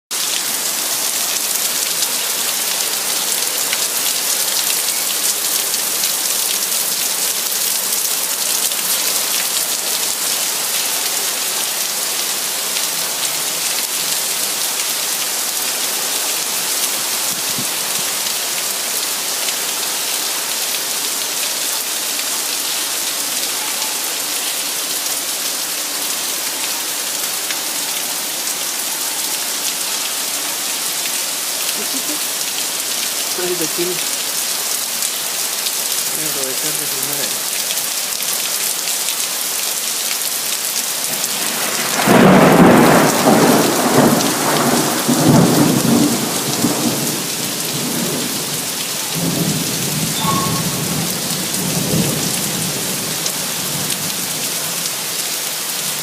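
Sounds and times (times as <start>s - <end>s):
heavy rain pattering: 0.1s - 56.0s.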